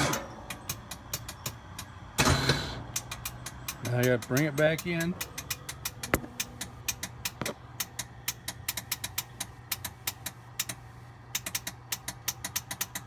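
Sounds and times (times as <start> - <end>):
low engine idle hum: 0.0 - 13.0
winch solenoid clicking rapidly: 0.0 - 13.0.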